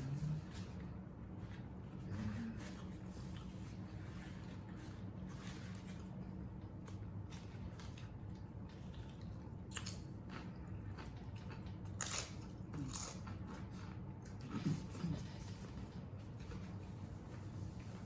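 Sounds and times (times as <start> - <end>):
chewing and crunching chips: 0.0 - 16.8
steady low hum: 0.0 - 18.0.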